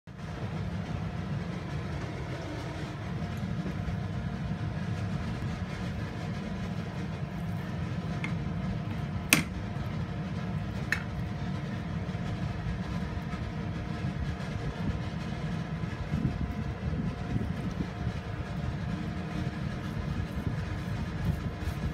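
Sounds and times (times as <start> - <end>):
low background rumble: 0.1 - 21.9.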